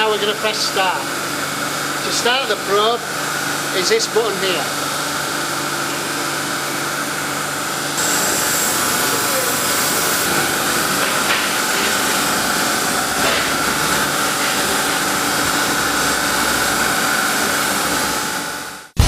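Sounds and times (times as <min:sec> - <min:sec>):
machine hiss and hum: 0:00.0 - 0:19.0.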